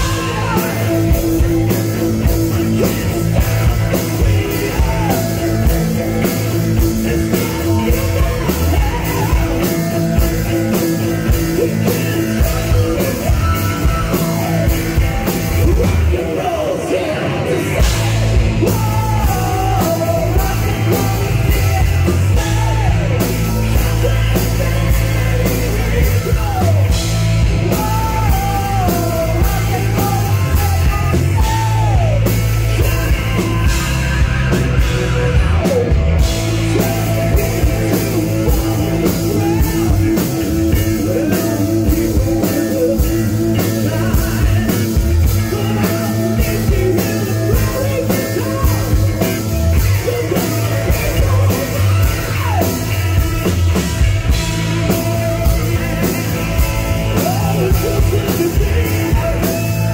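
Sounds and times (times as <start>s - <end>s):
rock band playing loud: 0.0s - 59.9s
singer singing: 0.0s - 59.9s.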